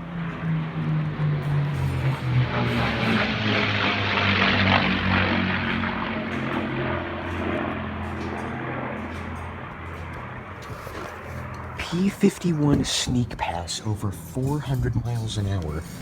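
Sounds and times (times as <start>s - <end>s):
piston aircraft engine passing: 0.0s - 16.0s.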